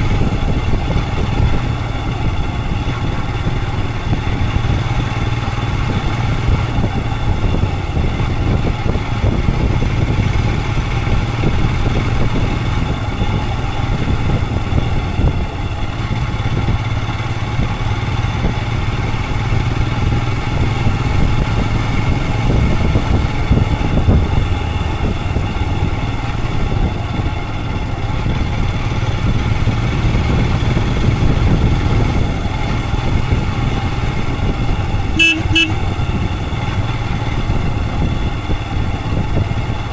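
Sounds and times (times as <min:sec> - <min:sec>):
motorcycle engine low rumble: 0:00.0 - 0:39.9.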